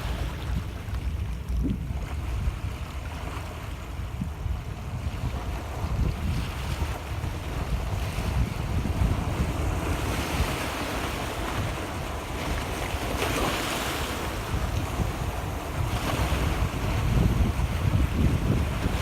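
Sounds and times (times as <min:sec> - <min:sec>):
gentle waves lapping: 0:00.0 - 0:19.0
wind rumble on microphone: 0:00.0 - 0:19.0.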